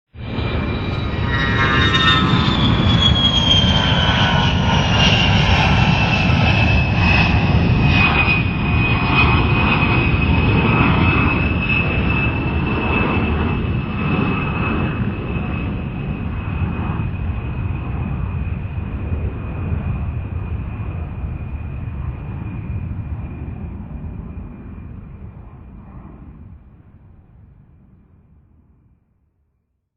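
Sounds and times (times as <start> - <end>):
jet engine low rumble: 0.1 - 29.5
high turbine whine: 0.2 - 25.7.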